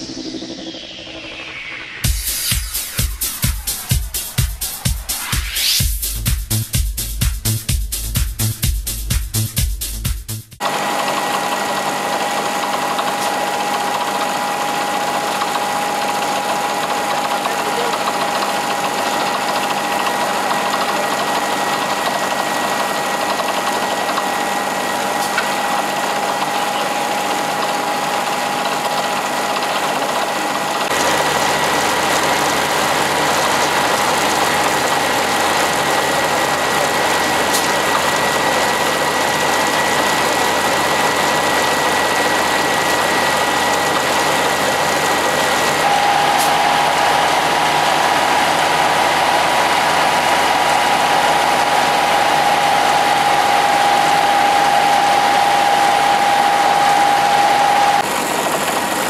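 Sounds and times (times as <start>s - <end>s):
constant high whine: 0.0s - 5.8s, 10.6s - 59.0s
drilling rig engine droning: 0.0s - 6.3s, 10.6s - 59.0s.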